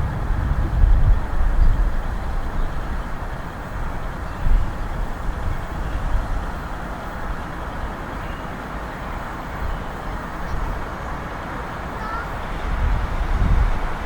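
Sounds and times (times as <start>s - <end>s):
train passing: 0.0s - 14.0s.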